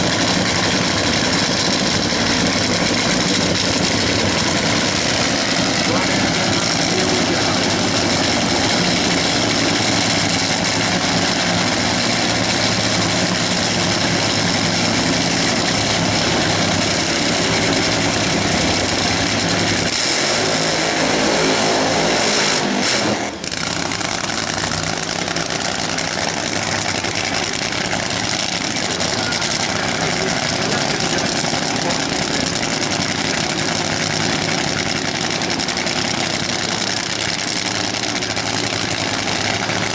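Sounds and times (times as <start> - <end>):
drag racing engine idling: 0.0 - 39.9.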